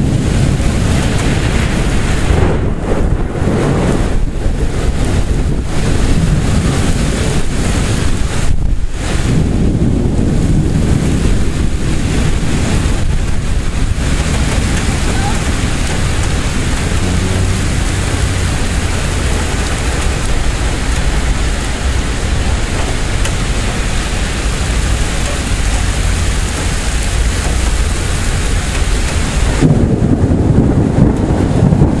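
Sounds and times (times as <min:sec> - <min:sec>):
heavy rain pouring: 0:00.0 - 0:32.0
low thunder rumble: 0:00.0 - 0:32.0
wind buffeting microphone: 0:00.0 - 0:32.0.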